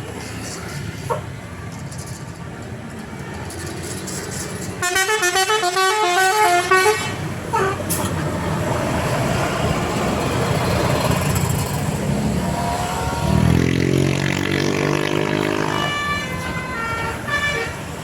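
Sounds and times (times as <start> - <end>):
bus engine droning: 0.0 - 18.0.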